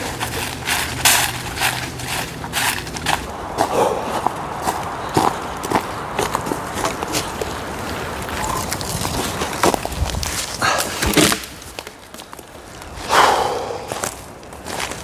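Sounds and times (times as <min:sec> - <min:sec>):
footsteps: 0:00.0 - 0:12.4.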